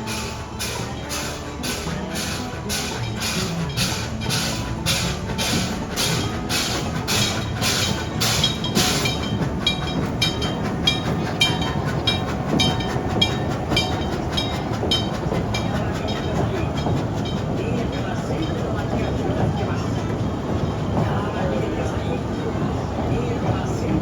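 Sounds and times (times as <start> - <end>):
low train rumble: 0.0 - 24.0
steam locomotive exhaust chuffs: 0.0 - 24.0
train wheels clicking on track: 0.0 - 24.0.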